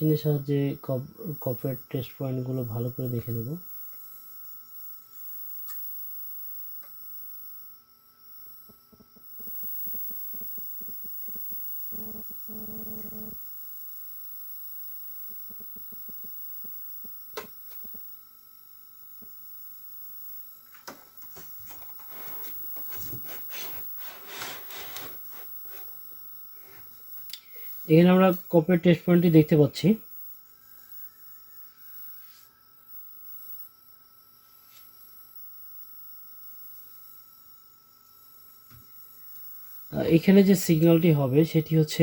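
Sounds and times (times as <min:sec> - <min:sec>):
electrical hum and high whine: 0:00.0 - 0:42.0.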